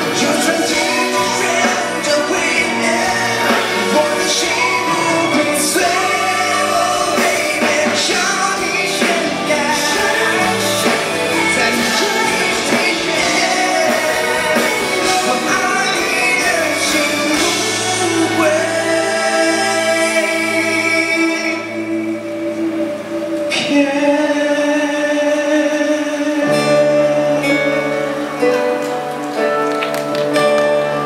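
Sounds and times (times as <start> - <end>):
man singing into microphone: 0.0 - 22.6, 23.5 - 28.8
live pop-rock band: 0.0 - 31.0.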